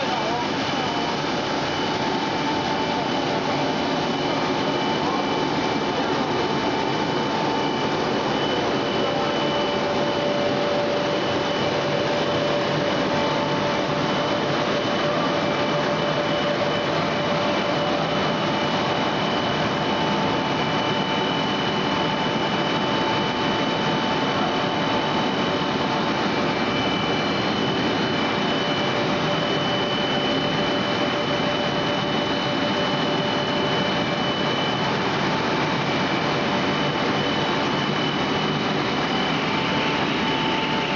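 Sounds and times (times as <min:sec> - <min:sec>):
faint steady whining tones: 0:00.0 - 0:40.9.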